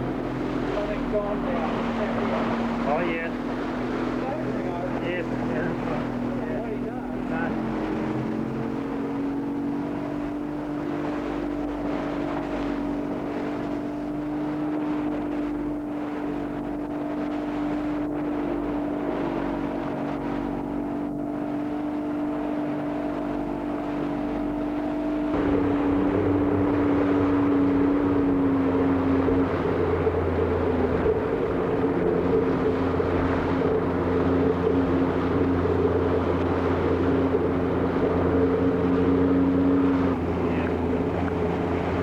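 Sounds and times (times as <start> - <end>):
boat motor running: 0.0 - 42.0
water noise: 0.0 - 42.0
wind: 0.0 - 42.0.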